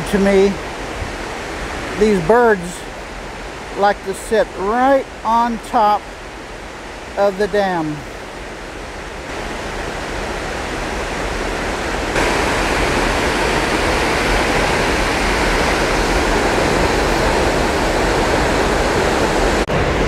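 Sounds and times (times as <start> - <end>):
water rushing over dam and rocks: 0.0 - 20.0.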